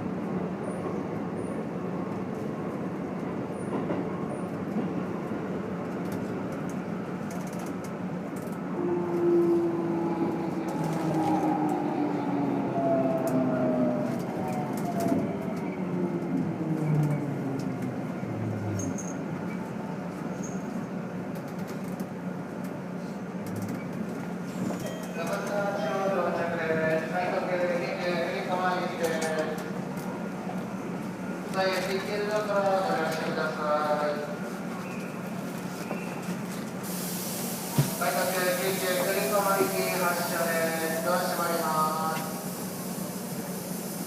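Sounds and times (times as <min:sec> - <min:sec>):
train interior rumble: 0:00.0 - 0:44.0.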